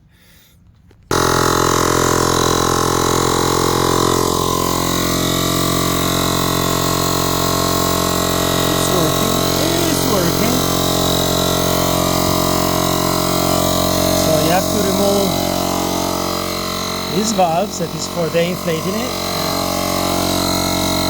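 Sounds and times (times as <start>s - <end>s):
tyre compressor humming: 1.1s - 21.0s.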